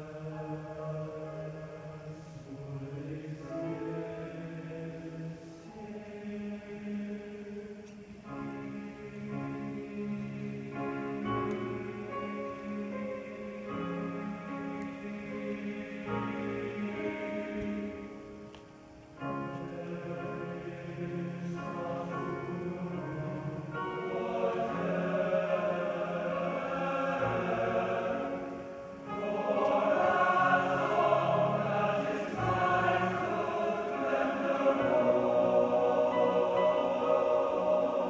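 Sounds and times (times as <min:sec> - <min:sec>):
men's choir singing: 0:00.0 - 0:18.4, 0:19.2 - 0:38.0.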